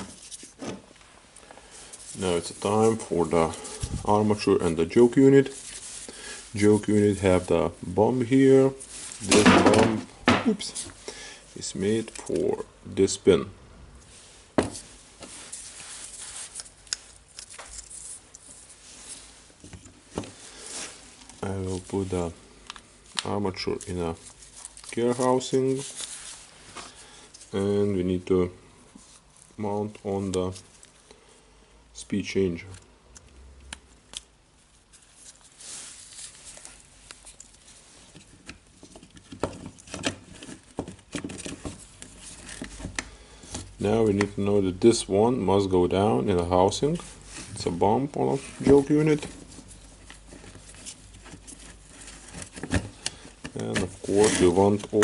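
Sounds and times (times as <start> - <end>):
soft rustling: 0.0 - 9.4, 14.0 - 31.1, 34.6 - 55.0.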